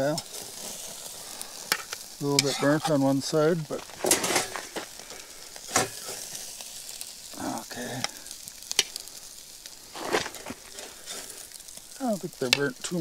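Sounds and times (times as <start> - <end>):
burger patties sizzling on grill: 0.0 - 13.0.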